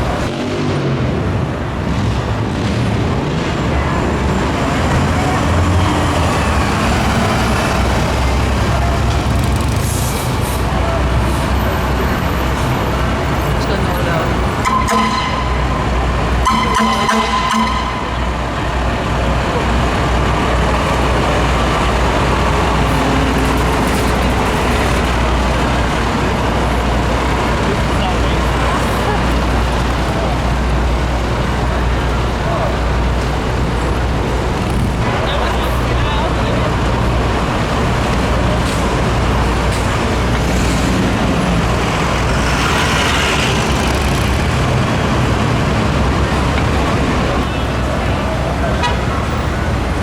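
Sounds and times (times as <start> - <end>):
city street traffic: 0.0 - 50.0
heavy vehicle engine rumbling: 0.0 - 50.0.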